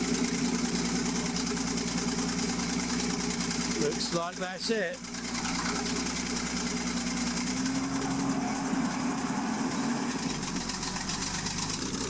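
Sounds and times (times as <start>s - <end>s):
bulldozer engine running: 0.0s - 12.0s.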